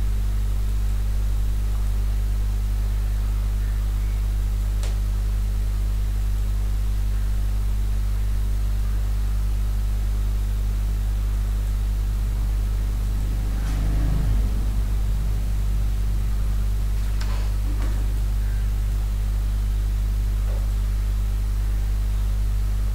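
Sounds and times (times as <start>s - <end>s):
low hum: 0.0s - 22.9s.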